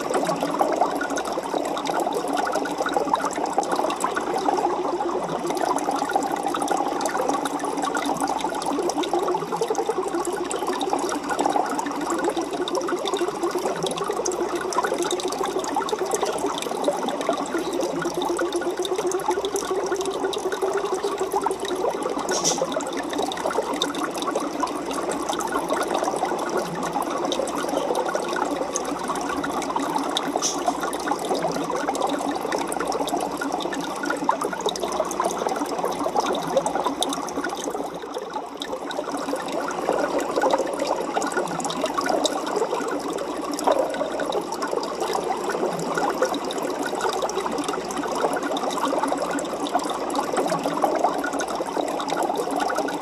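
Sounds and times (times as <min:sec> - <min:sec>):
aquarium water bubbling: 0:00.0 - 0:53.0.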